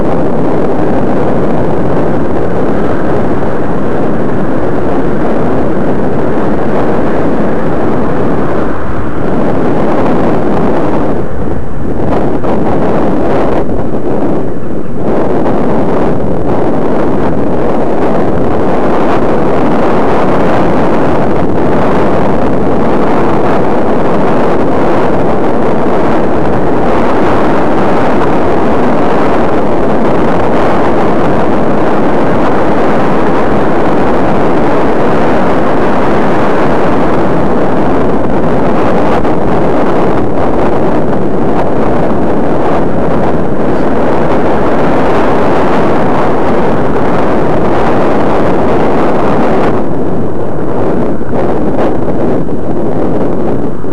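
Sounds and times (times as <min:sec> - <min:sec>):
wind rushing over microphone: 0:00.0 - 0:53.9.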